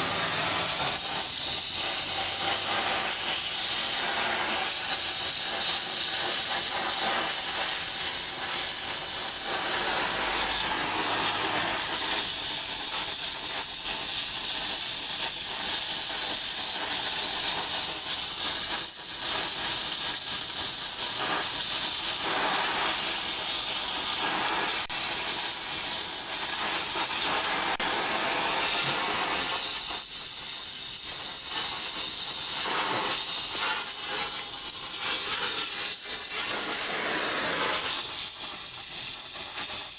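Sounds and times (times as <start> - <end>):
torch flame hissing: 0.0 - 39.9.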